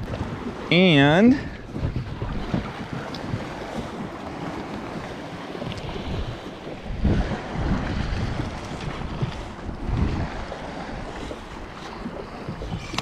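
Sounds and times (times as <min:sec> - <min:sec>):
sea water lapping: 0:00.0 - 0:13.0
wind buffeting microphone: 0:00.0 - 0:13.0.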